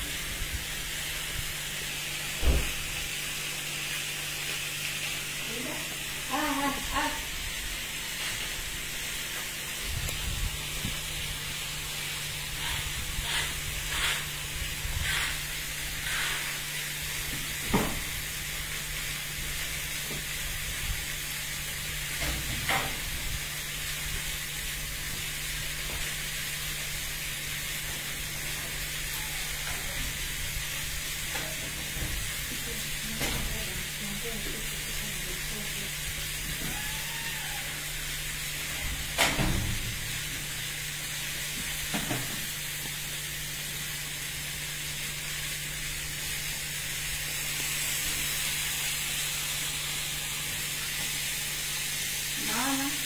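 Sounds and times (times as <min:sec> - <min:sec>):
steak sizzling: 0:00.0 - 0:53.0.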